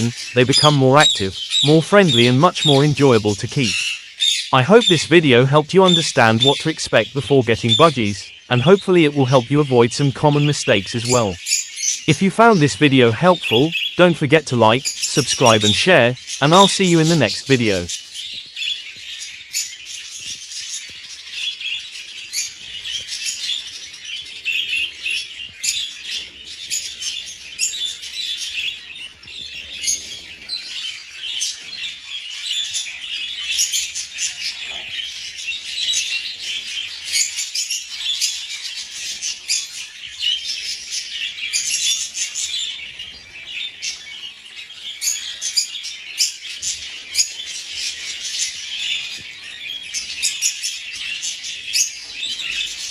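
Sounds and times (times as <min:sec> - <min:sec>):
budgerigars chattering: 0:00.0 - 0:52.9.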